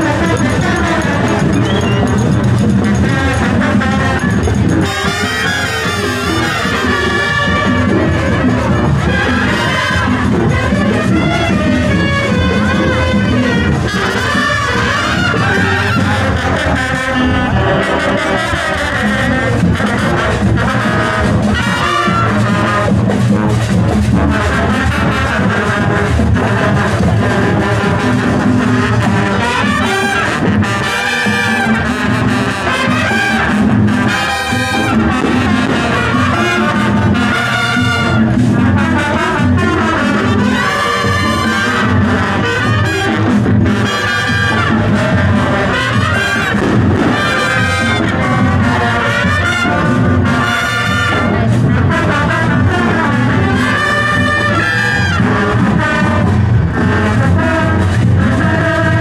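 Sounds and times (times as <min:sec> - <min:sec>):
marching band playing: 0:00.0 - 0:59.0.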